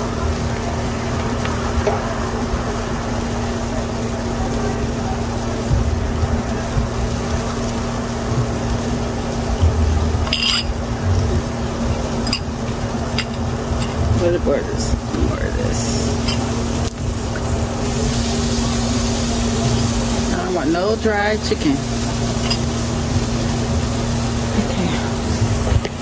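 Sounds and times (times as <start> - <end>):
grill rumble and hum: 0.0 - 26.0.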